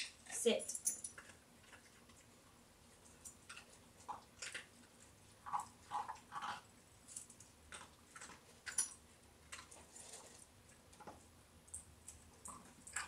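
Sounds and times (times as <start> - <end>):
dog crunching kibble: 1.0 - 13.0.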